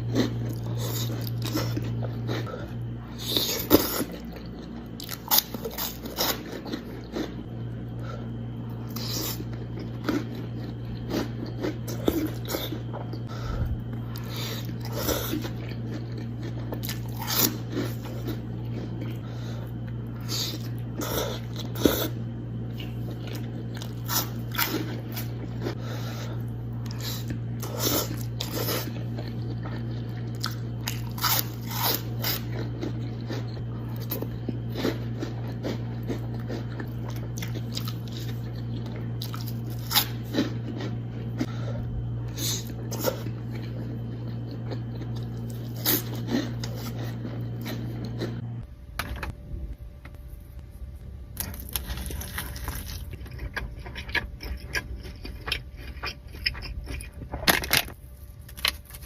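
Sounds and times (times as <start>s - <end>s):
wet chewing with crunches: 0.0s - 48.7s, 50.6s - 59.0s
steady low hum: 0.0s - 59.0s.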